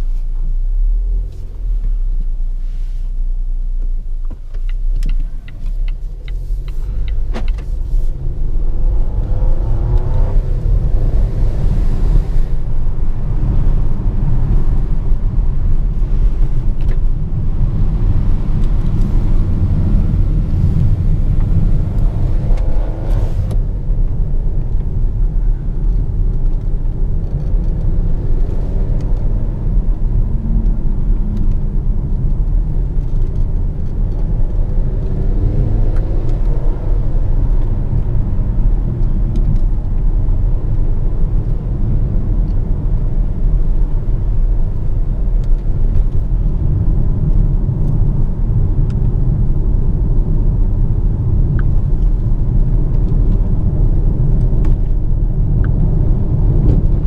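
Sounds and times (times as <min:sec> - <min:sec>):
car engine: 0:00.0 - 0:57.0
tyre and road rumble: 0:00.0 - 0:57.0.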